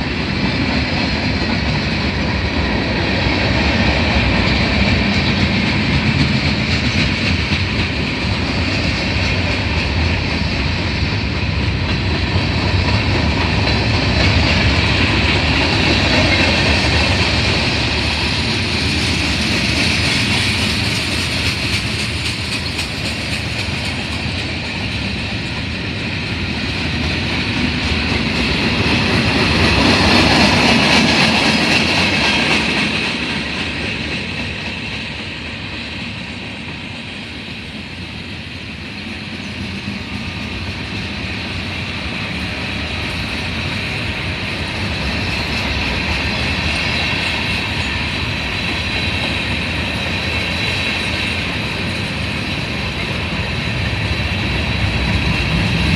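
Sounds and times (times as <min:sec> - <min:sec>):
railroad cars rumbling on track: 0:00.0 - 0:55.9.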